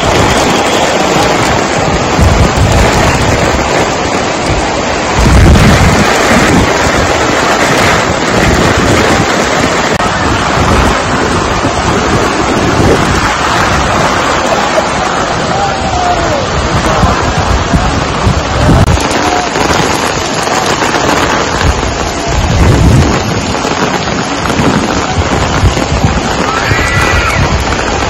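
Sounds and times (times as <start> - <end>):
deep low rumble: 0.0 - 28.0
heavy rain splashing on stone paving: 0.0 - 28.0.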